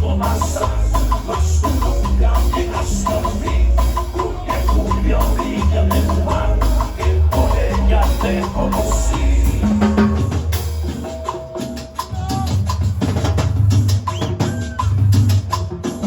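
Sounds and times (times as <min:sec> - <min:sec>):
latin dance music: 0:00.0 - 0:16.0.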